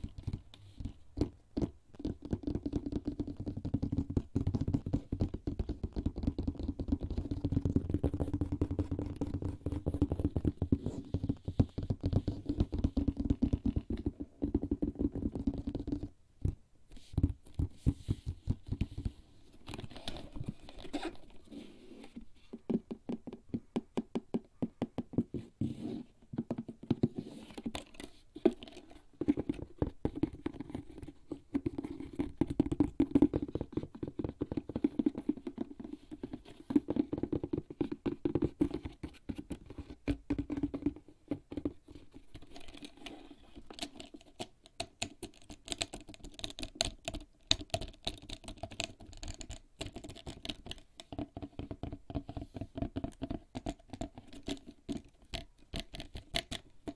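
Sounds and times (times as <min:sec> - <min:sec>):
fingertips tapping on leather bag: 0:00.0 - 0:21.1, 0:22.1 - 0:25.7, 0:26.3 - 0:56.9.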